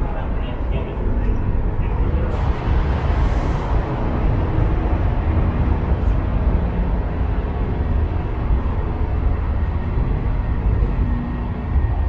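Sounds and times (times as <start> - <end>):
low rumble of machinery: 0.0 - 12.0.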